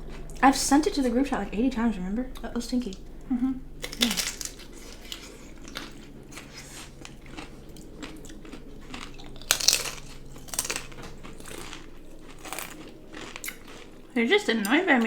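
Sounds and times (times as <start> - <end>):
person chewing crunchy food: 0.0 - 1.0, 2.3 - 14.8.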